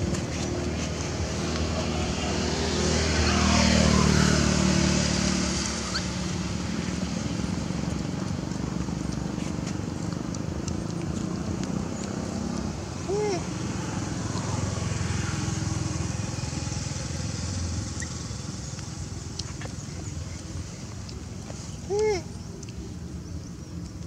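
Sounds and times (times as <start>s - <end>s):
vehicle engine passing: 0.0s - 21.3s.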